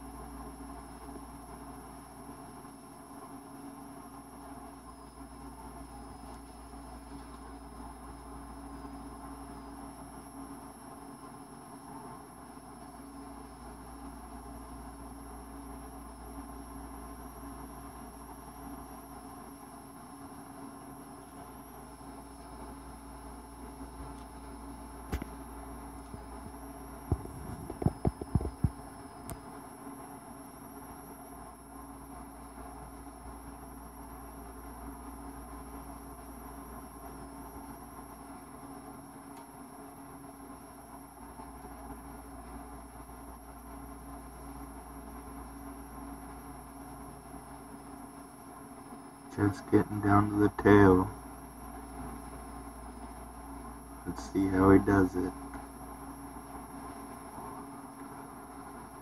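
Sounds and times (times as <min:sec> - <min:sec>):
background hum and hiss: 0:00.0 - 0:59.0
faint high whine: 0:00.0 - 0:59.0.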